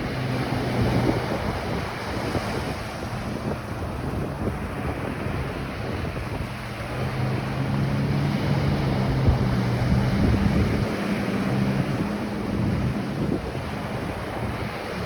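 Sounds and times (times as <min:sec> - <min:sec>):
ocean surf on a beach: 0:00.0 - 0:15.0
wind buffeting the microphone: 0:00.0 - 0:15.0.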